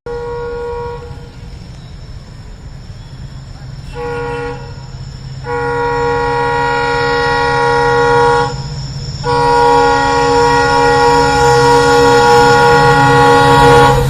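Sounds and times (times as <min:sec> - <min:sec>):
diesel locomotive horn blasts: 0:00.1 - 0:01.5, 0:03.8 - 0:14.0
low engine rumble: 0:00.1 - 0:14.0.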